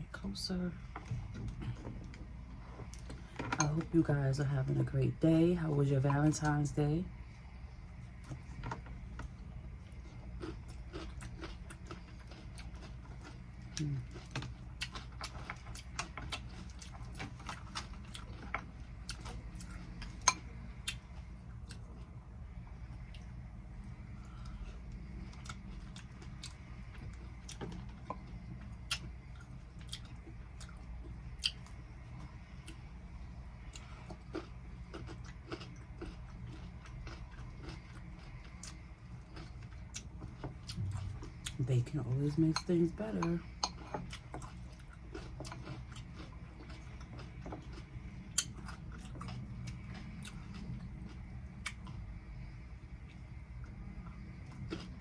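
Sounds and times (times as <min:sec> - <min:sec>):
low steady hum: 0:00.0 - 0:55.0
crunching and chewing salad: 0:00.2 - 0:55.0.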